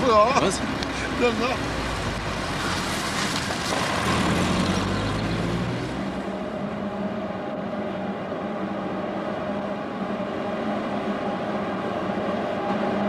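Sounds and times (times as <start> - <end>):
electric locomotive hum: 0.0 - 13.0.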